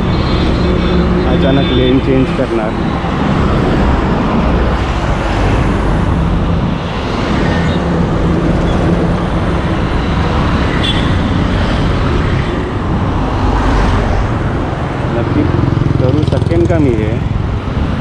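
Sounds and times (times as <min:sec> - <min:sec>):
fast highway traffic passing: 0:00.0 - 0:18.0.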